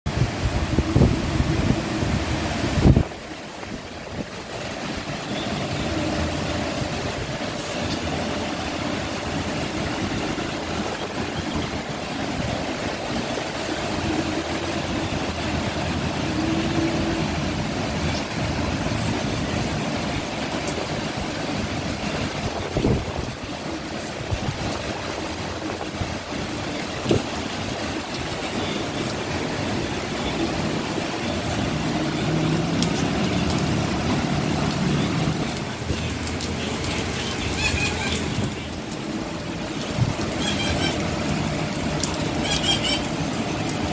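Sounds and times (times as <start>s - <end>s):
rain on pavement: 0.1s - 43.9s.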